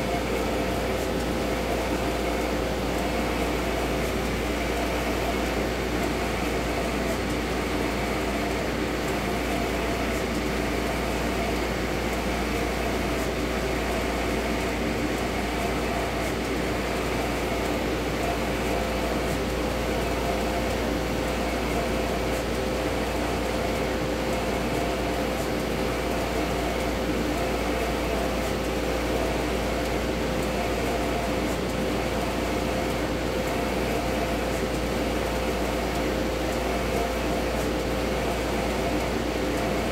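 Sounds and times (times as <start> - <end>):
printer machine hum: 0.0 - 39.9.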